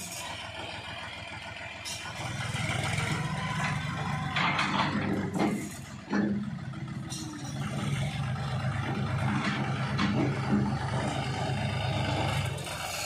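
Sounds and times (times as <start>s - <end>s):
tractor diesel engine running: 0.0s - 13.0s
dozer blade pushing soil: 1.8s - 6.5s, 7.1s - 13.0s.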